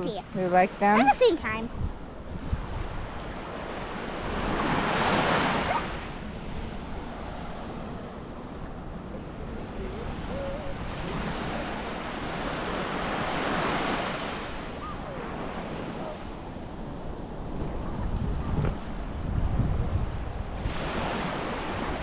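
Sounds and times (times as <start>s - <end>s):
sea waves washing in: 0.1s - 22.0s
wind noise on microphone: 0.2s - 22.0s.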